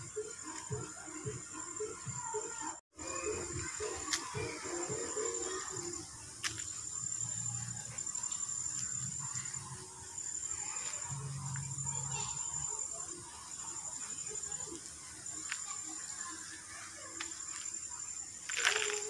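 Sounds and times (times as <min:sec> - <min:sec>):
insects trilling: 0:00.1 - 0:19.0.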